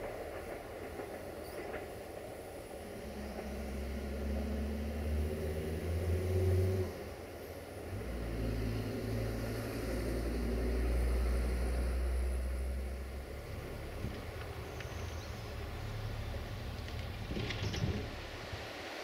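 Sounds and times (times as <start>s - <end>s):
vehicle engine droning: 2.6s - 18.6s.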